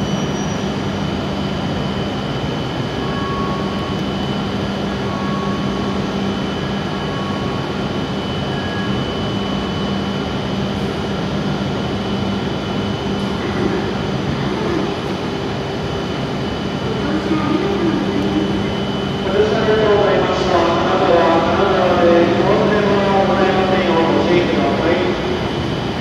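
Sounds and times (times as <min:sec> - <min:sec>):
high whine: 0:00.0 - 0:26.0
train equipment humming: 0:00.0 - 0:26.0.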